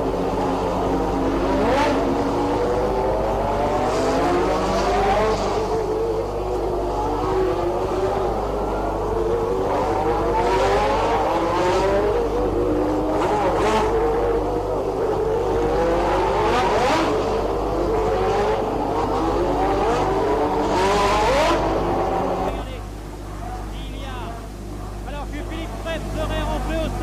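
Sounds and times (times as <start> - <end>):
cars passing close: 0.0 - 27.0
racing car engines revving: 0.0 - 27.0.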